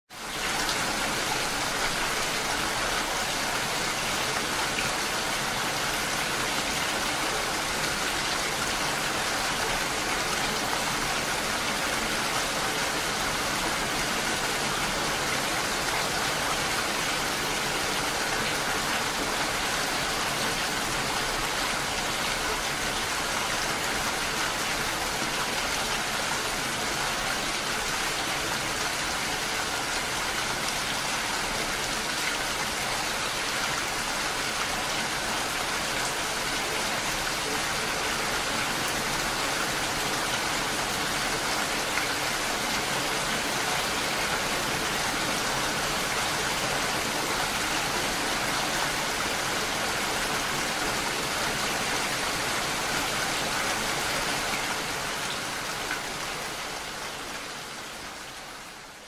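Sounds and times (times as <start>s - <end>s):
steady rain falling: 0.1s - 59.0s.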